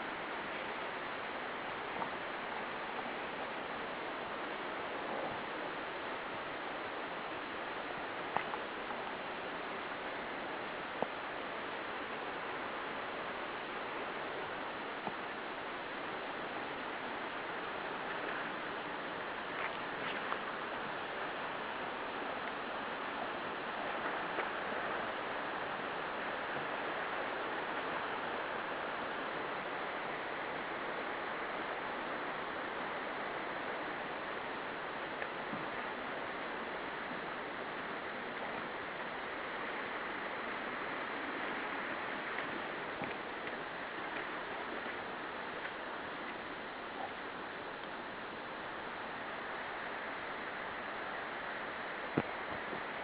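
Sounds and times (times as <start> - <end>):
rushing stream water: 0.0 - 53.0.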